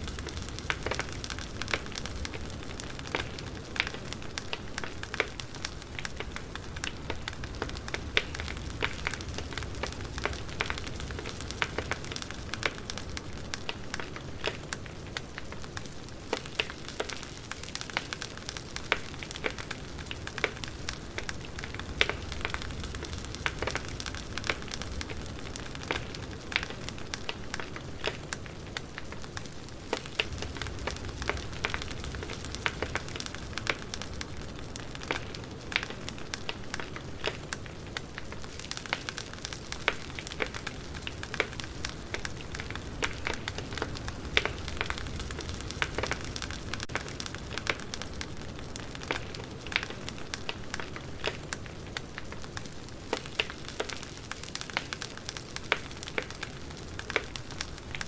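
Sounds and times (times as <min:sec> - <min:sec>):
low rumble of fire: 0:00.0 - 0:58.0.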